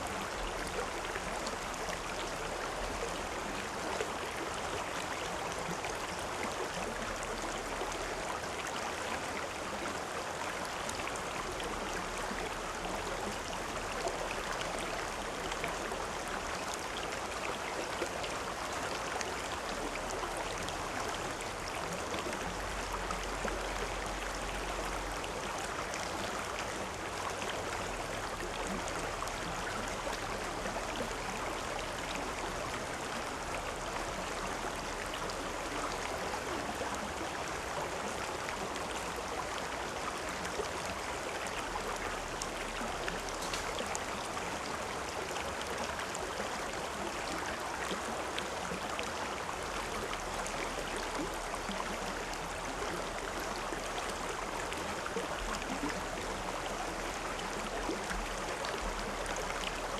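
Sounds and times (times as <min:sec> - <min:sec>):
stream flowing and babbling: 0:00.0 - 0:59.9.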